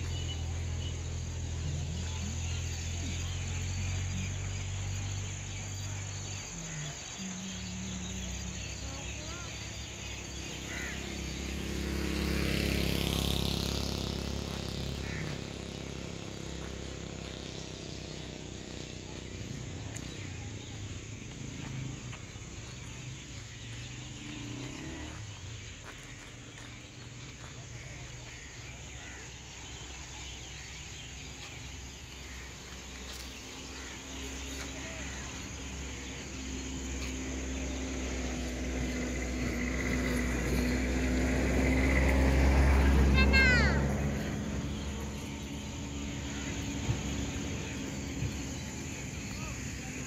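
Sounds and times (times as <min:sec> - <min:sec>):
crickets chirring: 0:00.0 - 0:50.0.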